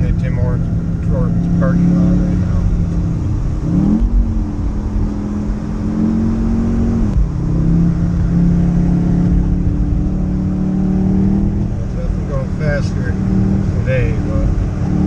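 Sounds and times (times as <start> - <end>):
car engine heard from cabin: 0.0 - 15.0.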